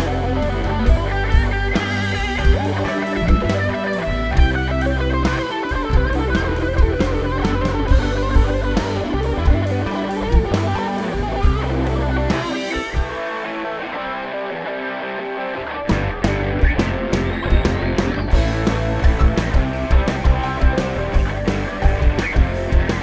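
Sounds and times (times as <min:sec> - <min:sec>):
drum kit beat: 0:00.0 - 0:13.5, 0:15.9 - 0:23.0
bass guitar: 0:00.0 - 0:23.0
electric guitar lines: 0:00.0 - 0:23.0.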